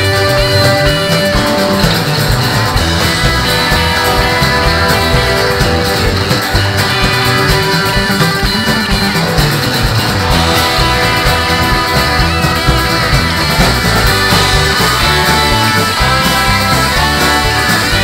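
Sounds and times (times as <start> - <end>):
acoustic guitar: 0.0 - 18.0
drums: 0.0 - 18.0
electric guitar: 0.0 - 18.0
keyboard: 0.0 - 18.0.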